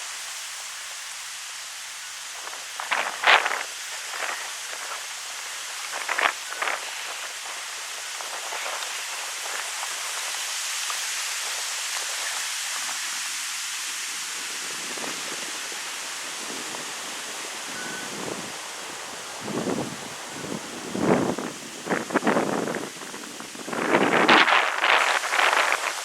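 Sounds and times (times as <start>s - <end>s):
wind rustling leaves: 0.0s - 26.0s.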